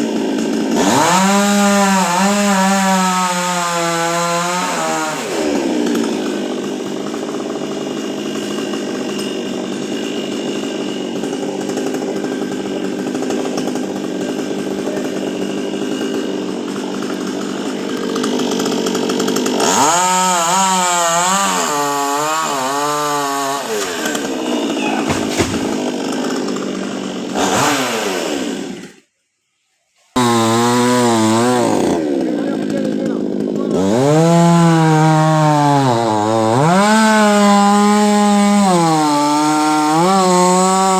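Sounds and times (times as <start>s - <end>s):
chainsaw cutting wood: 0.0s - 29.1s, 30.1s - 40.9s.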